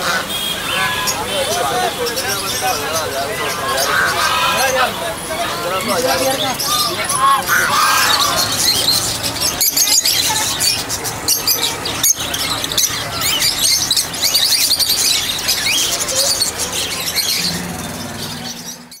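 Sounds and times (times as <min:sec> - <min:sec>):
caged birds chirping and squealing: 0:00.0 - 0:19.0.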